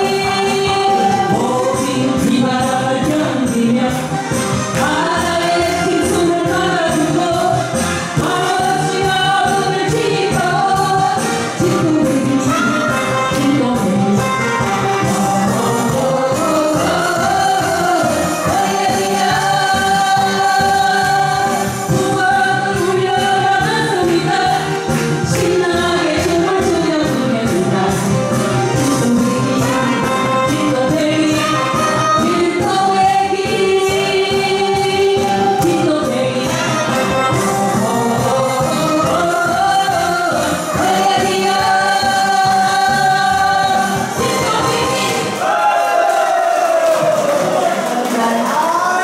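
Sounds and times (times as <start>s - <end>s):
women singing into microphones: 0.0s - 46.9s
musical accompaniment with steady beat: 0.0s - 48.6s.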